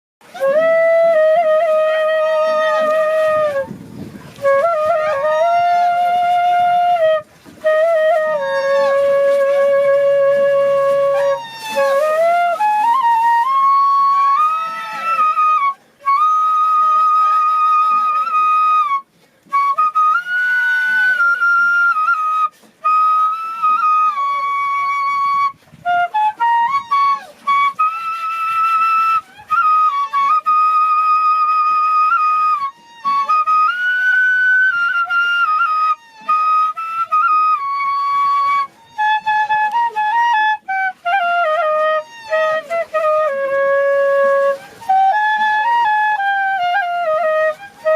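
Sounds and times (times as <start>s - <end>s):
solo flute melody: 0.2s - 47.9s.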